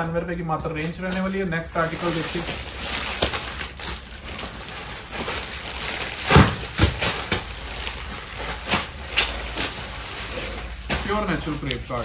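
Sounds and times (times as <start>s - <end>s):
plastic packaging crinkling: 0.8s - 12.0s.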